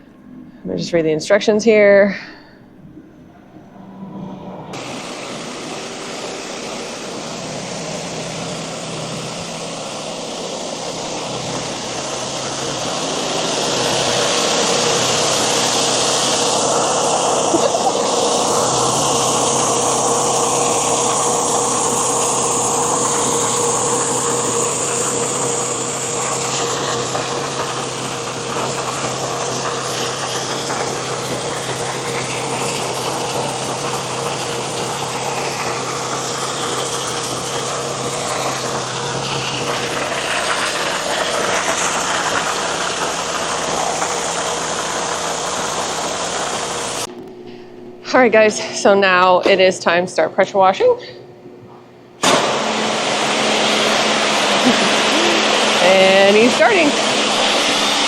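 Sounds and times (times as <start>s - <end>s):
low hum: 0.0s - 54.0s
engine running: 2.8s - 49.6s, 52.2s - 58.0s
high hiss: 3.6s - 49.0s, 52.2s - 58.0s.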